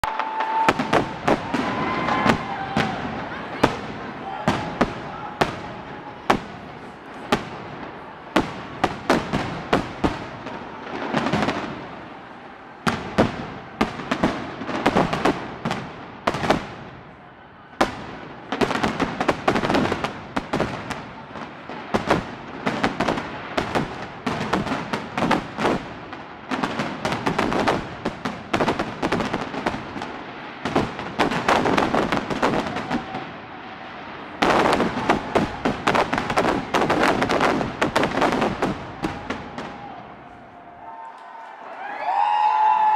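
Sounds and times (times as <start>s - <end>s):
fireworks bangs and crackling: 0.0s - 40.8s.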